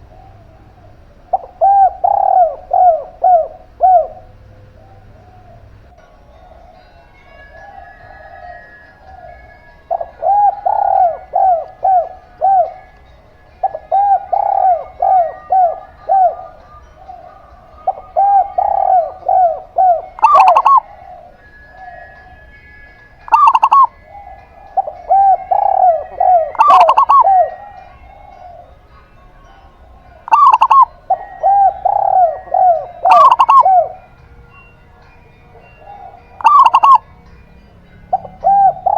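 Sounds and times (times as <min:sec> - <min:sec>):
sharp bird calls: 0:00.0 - 0:06.0, 0:07.8 - 0:34.2, 0:35.6 - 0:37.1, 0:38.1 - 0:38.9
doves cooing: 0:00.0 - 0:34.6, 0:35.5 - 0:37.2, 0:37.9 - 0:38.9.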